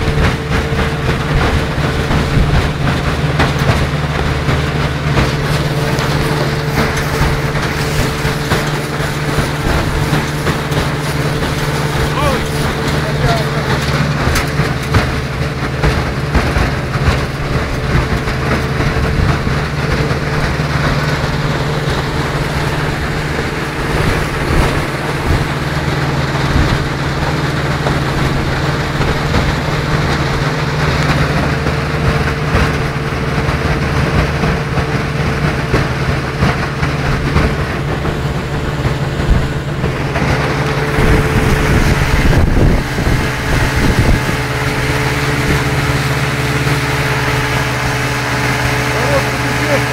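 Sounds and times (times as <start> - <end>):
outboard motor running: 0.0 - 49.9.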